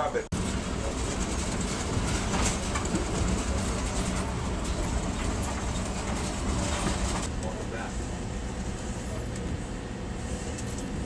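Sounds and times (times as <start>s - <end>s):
train wheels rumbling on rails: 0.3s - 9.7s.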